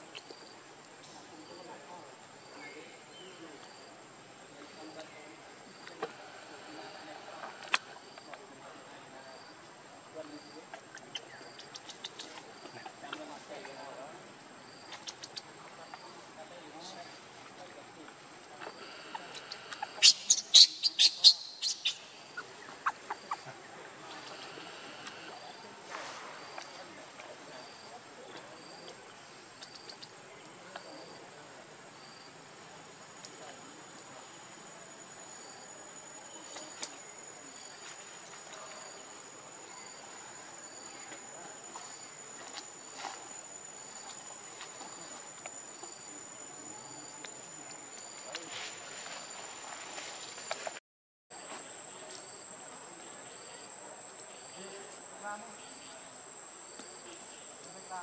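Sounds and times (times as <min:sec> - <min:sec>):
insects droning: 0:00.0 - 0:58.0
short insect chirp: 0:00.1 - 0:31.2, 0:31.8 - 0:50.8.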